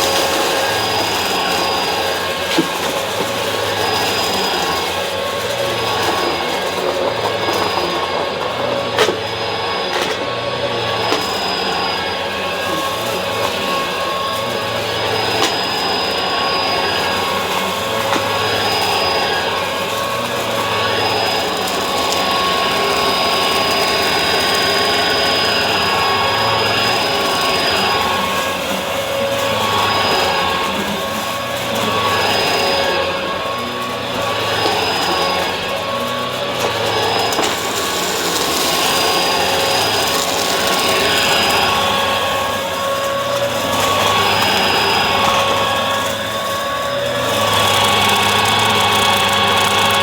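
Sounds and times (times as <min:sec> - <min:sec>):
vacuum cleaner motor whine: 0:00.0 - 0:50.0.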